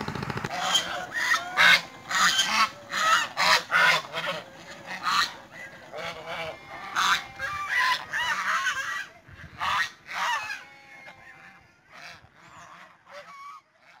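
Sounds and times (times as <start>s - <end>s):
geese honking: 0.1s - 14.0s.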